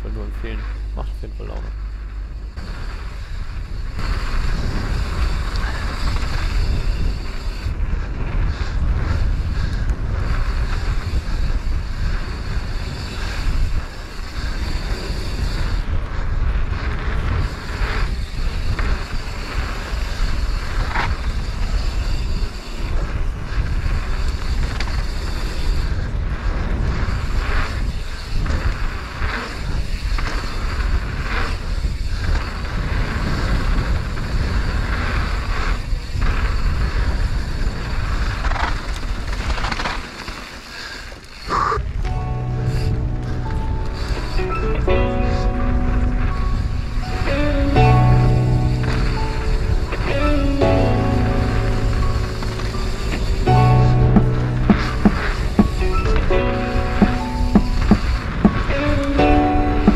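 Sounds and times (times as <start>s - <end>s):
wind buffeting microphone: 0.0s - 40.4s, 41.0s - 59.9s
heavy rumble of bike ride: 0.0s - 59.9s.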